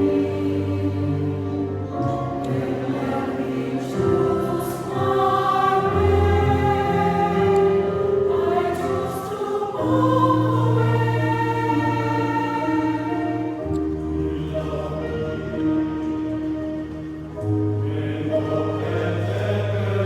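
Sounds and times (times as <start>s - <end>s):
choir singing in parts: 0.0s - 20.0s.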